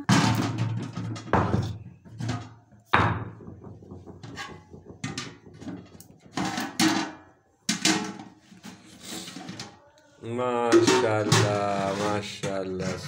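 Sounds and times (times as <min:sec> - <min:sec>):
metal clanks and knocks: 0:00.0 - 0:09.8, 0:10.7 - 0:13.0.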